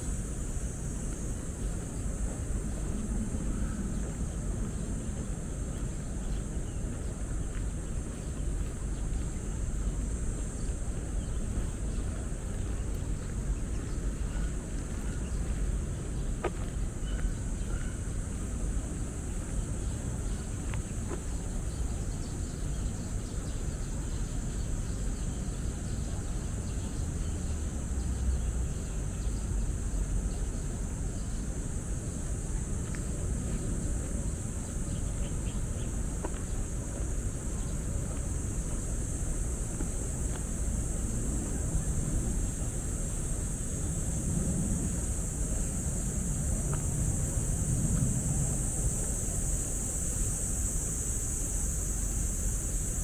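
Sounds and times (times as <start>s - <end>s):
city traffic rumble: 0.0s - 53.0s
insects buzzing: 0.0s - 53.0s.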